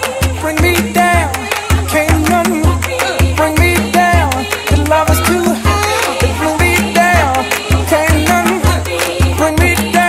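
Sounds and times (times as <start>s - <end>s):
bass line: 0.0s - 10.0s
person singing over a beat: 0.0s - 10.0s.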